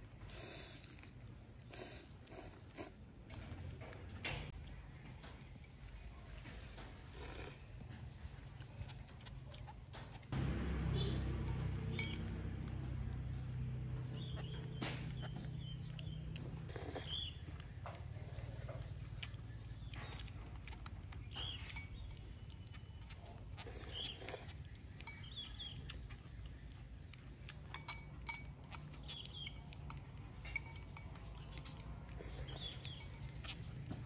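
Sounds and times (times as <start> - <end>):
low steady hum: 3.3 - 34.0.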